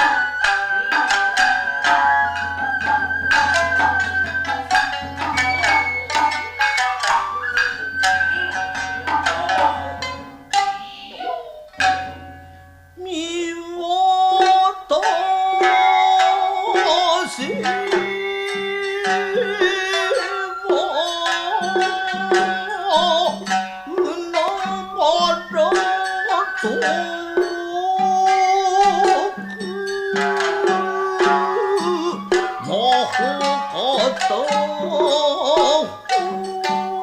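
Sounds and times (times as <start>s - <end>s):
bamboo flute notes: 0.0s - 37.0s
hand drum strokes: 0.0s - 37.0s
plucked shamisen: 0.0s - 37.0s.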